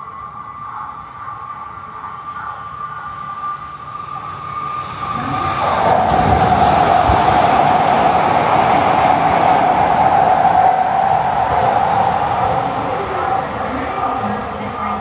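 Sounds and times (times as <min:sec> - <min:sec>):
steady whine: 0:00.0 - 0:15.0
train passing at speed: 0:00.0 - 0:15.0.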